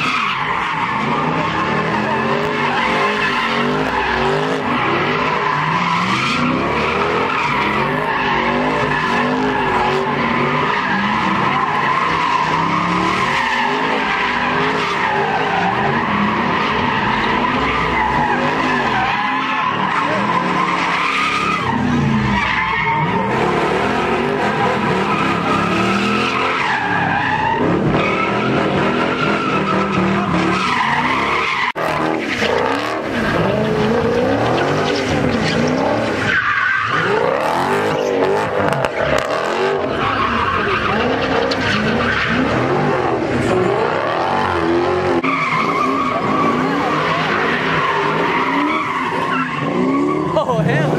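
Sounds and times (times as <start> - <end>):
car engines revving: 0.0 - 50.9
tyres squealing on pavement: 0.0 - 50.9.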